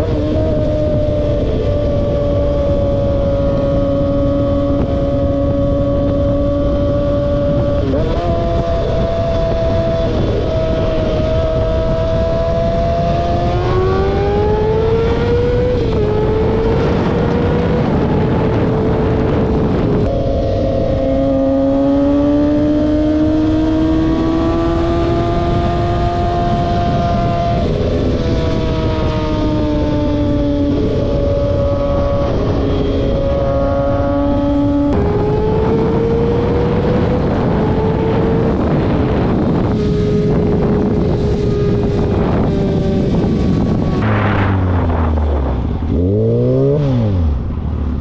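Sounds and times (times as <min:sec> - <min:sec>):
car engines revving high: 0:00.0 - 0:48.0
rumble of engines and exhaust: 0:00.0 - 0:48.0.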